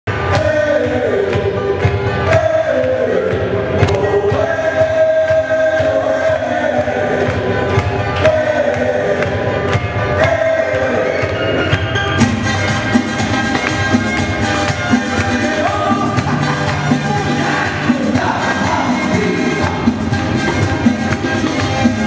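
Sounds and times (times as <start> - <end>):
dance music with sung vocals: 0.1 - 22.0.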